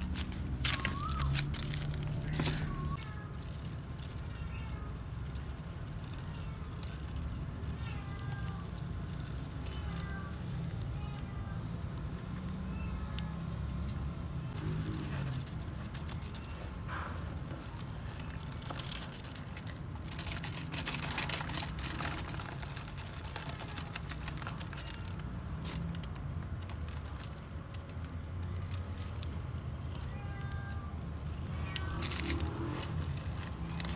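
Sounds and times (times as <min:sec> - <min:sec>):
dry plant stems rustling: 0:00.0 - 0:13.3, 0:14.4 - 0:33.9
low background hum: 0:00.0 - 0:33.9.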